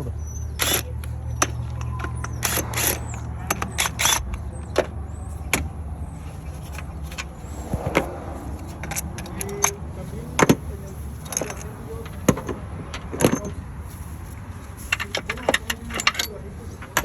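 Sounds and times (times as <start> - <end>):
metal hand tools clanking: 0.3 - 17.0.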